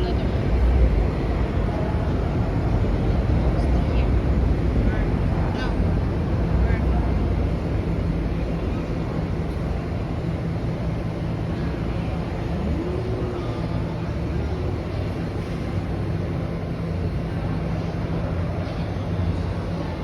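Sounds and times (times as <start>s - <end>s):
subway train rumble: 0.0s - 20.0s
train whine: 0.0s - 20.0s.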